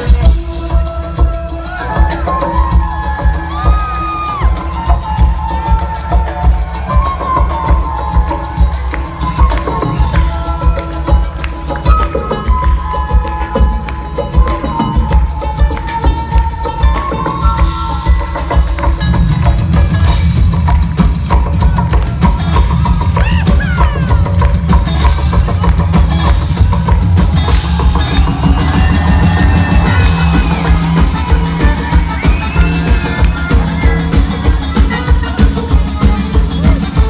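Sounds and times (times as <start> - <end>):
live band music: 0.0 - 37.0.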